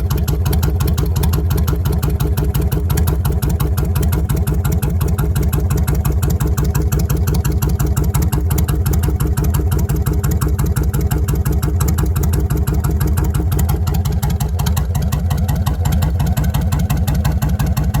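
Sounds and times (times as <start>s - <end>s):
motorcycle idling: 0.0s - 18.0s.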